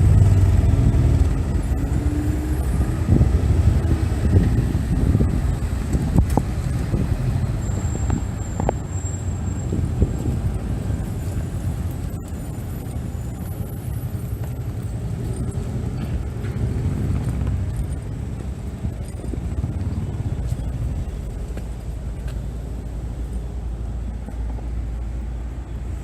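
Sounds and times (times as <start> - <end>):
vehicle rumbling past: 0.0 - 26.0.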